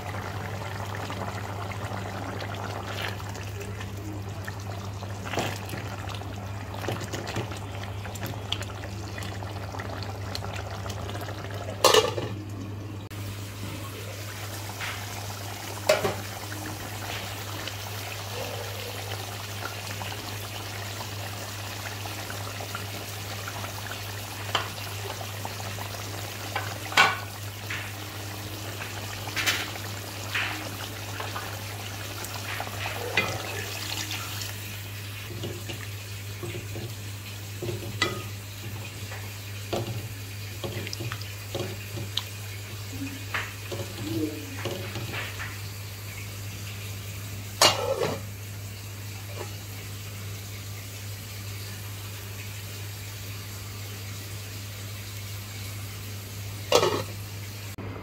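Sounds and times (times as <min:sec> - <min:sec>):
broth boiling in metal pot: 0:00.0 - 0:50.5.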